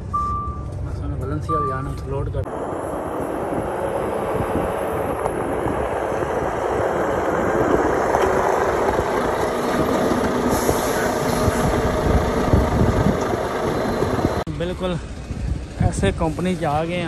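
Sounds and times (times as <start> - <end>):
diesel truck engine: 0.0 - 17.0.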